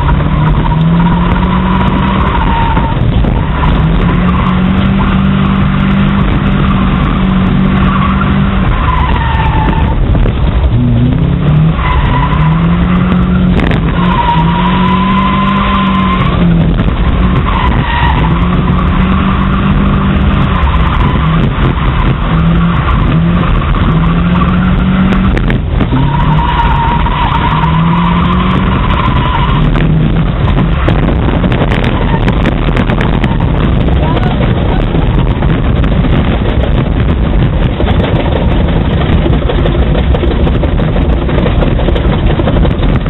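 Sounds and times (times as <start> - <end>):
race car engine revving: 0.0 - 43.0
tires squealing: 0.0 - 43.0.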